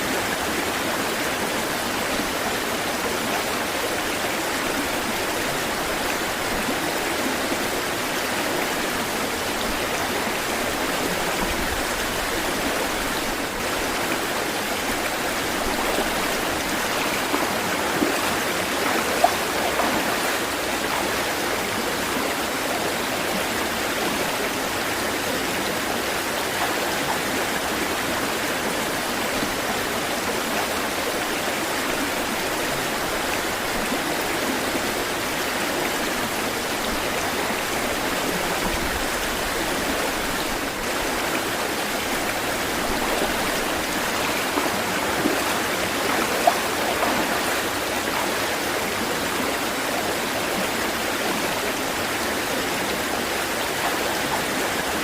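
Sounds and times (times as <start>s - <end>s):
water rushing: 0.0s - 55.0s
water splashes: 3.6s - 55.0s.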